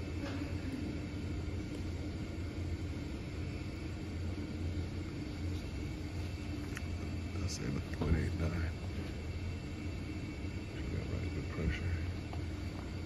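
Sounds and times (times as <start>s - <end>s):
room hum and rumble: 0.0s - 13.0s.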